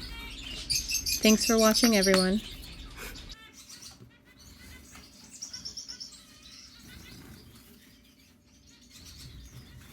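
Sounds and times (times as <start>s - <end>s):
bird trill: 0.0s - 9.9s
small birds chirping: 0.0s - 9.9s.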